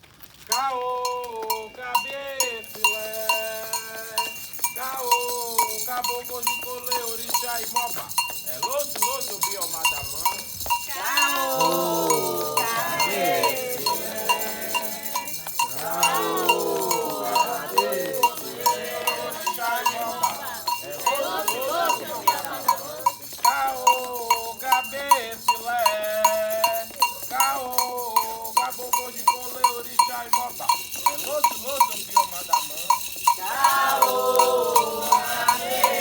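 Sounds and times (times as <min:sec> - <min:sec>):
voices singing a chant: 0:00.5 - 0:09.4, 0:10.0 - 0:36.0
metal bell struck in beat: 0:01.0 - 0:36.0.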